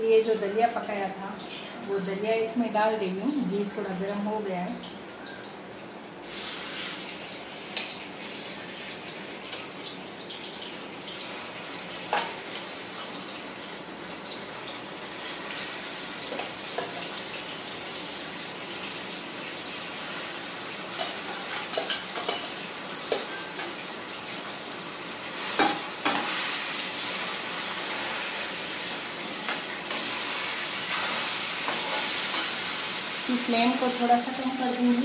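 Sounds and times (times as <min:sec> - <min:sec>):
wheat sizzling in hot ghee: 0:03.4 - 0:35.0.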